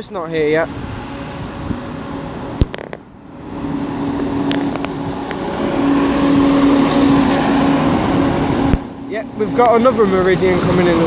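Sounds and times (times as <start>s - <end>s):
diesel train engine hum: 0.0s - 11.0s.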